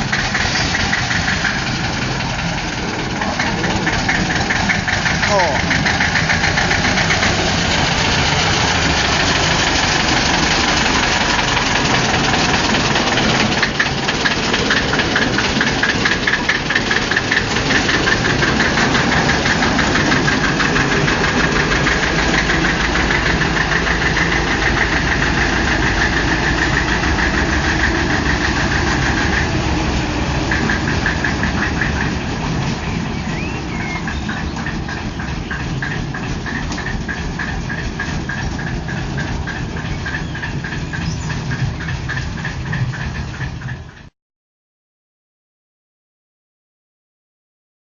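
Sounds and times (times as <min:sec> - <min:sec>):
diesel locomotive engine running: 0:00.0 - 0:44.1.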